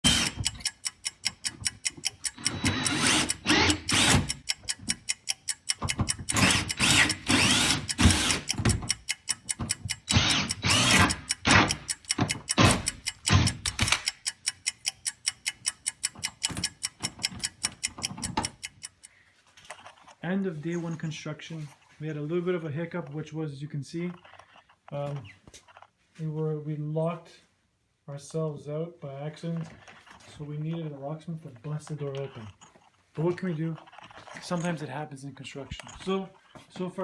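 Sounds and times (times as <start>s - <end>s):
fast steady ticking: 0.0s - 25.9s, 29.2s - 37.0s.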